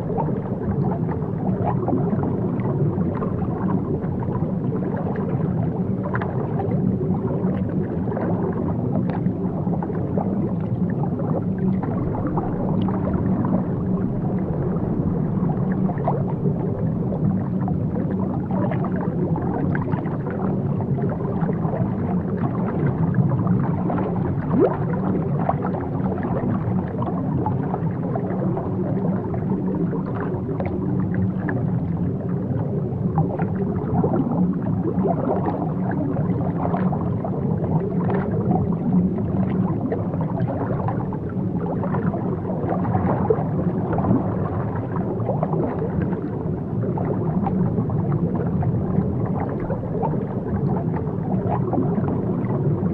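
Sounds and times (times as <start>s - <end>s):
faint bubbling: 0.0s - 52.9s
underwater low rumble: 0.0s - 52.9s.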